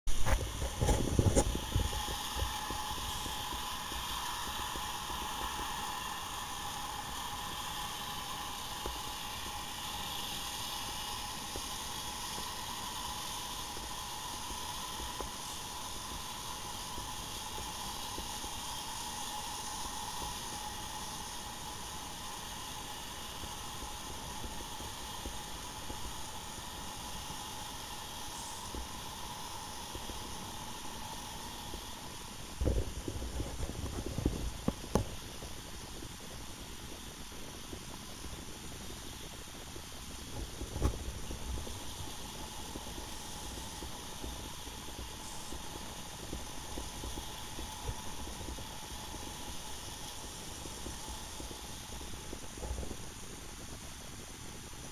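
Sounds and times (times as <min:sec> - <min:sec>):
mid-pitched hum: 0:00.1 - 0:54.9
underwater hiss: 0:00.1 - 0:54.9.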